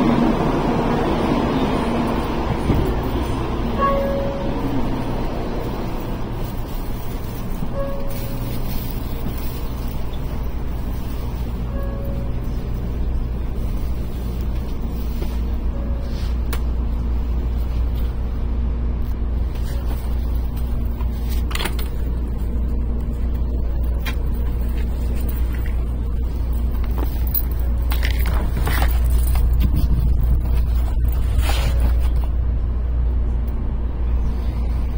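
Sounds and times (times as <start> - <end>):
faint hum: 0.0 - 34.9
train rumble: 0.0 - 34.9.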